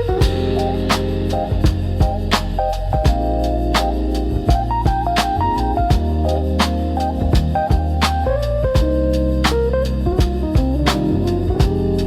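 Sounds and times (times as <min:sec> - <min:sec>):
lofi jazz instrumental music: 0:00.0 - 0:12.0.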